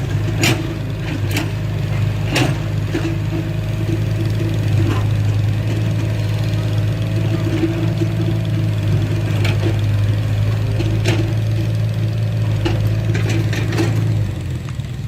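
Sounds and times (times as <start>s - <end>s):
heavy machinery diesel engine running: 0.0s - 15.0s
sharp metallic clanks and knocks: 0.1s - 11.8s, 12.4s - 14.2s.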